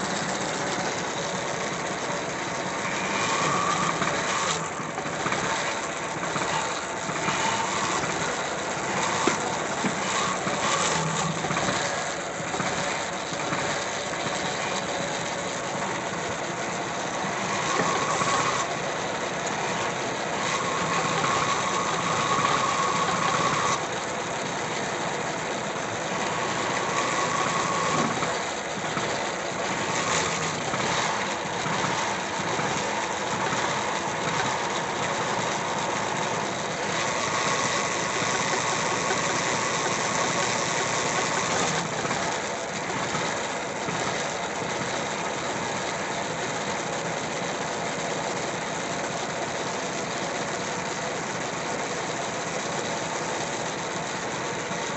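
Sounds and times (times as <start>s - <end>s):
whine: 0.0s - 44.6s
tractor diesel engine running: 0.0s - 54.9s.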